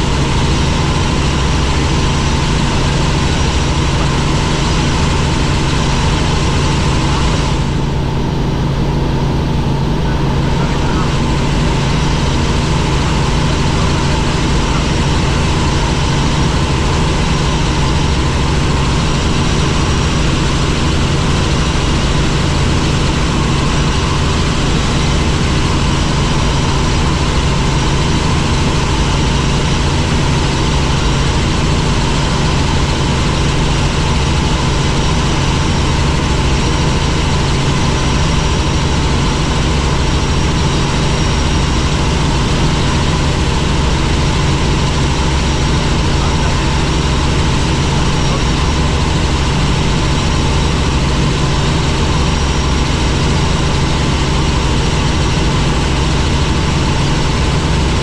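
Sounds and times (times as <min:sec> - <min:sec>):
helicopter engine and rotors droning: 0:00.0 - 0:58.0.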